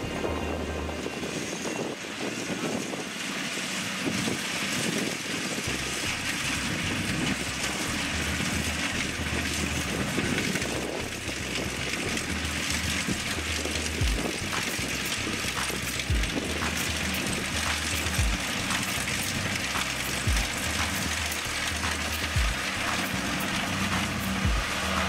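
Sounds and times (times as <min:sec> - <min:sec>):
combine harvester running: 0:00.0 - 0:25.0.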